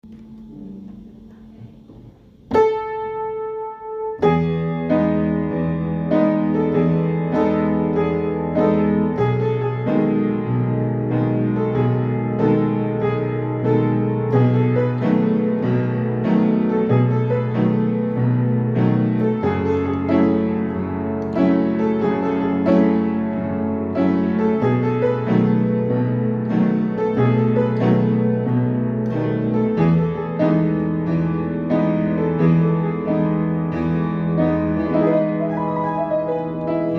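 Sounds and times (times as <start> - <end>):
piano chords: 0.0 - 36.9.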